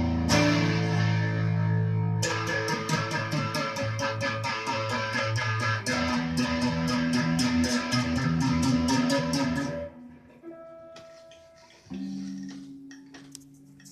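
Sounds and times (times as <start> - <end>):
electric guitar chords picked: 0.0 - 13.3.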